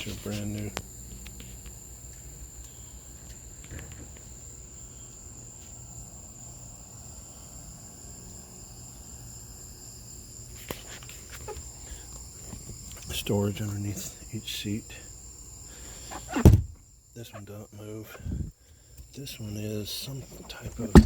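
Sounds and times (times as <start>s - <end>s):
high-pitched insect trill: 0.0s - 21.0s.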